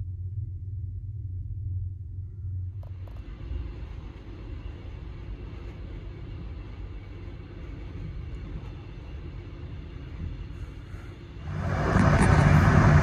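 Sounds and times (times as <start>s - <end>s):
moving train rumbling: 1.2s - 13.0s.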